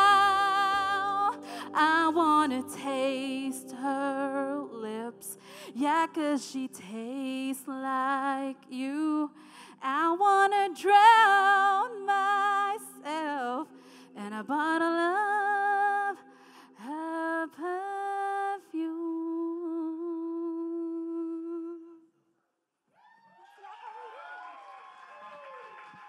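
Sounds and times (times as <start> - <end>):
woman singing a ballad: 0.0 - 22.0.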